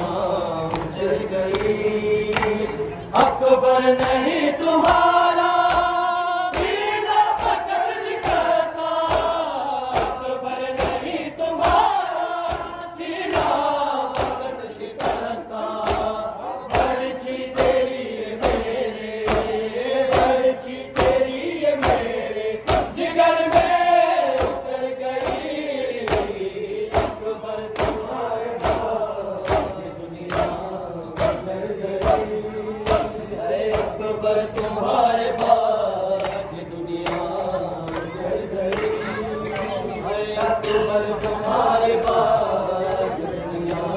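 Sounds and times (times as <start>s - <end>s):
crowd of men chanting in unison: 0.0s - 43.9s.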